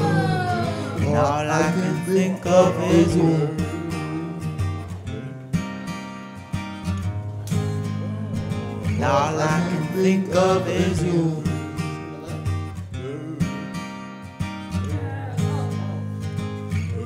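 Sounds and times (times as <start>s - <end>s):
person singing: 0.0s - 5.7s, 7.5s - 14.0s, 14.8s - 17.0s
strummed acoustic guitar chords: 0.0s - 17.0s.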